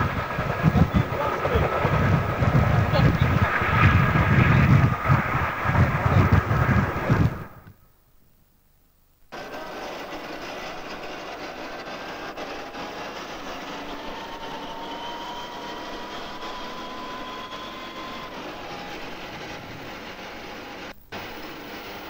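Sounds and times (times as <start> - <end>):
armoured vehicle engine and running gear: 0.0 - 7.6, 9.3 - 22.0
faint whine: 0.0 - 22.0.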